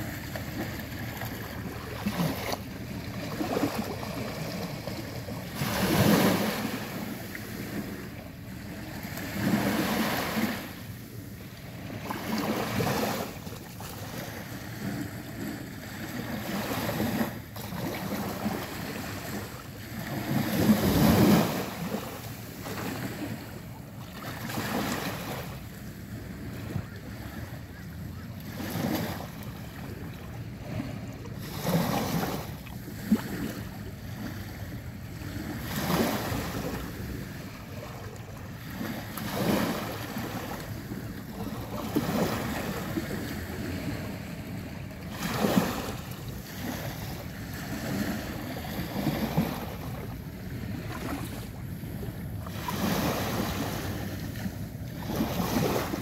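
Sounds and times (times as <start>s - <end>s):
small waves washing on shore: 0.0s - 56.0s.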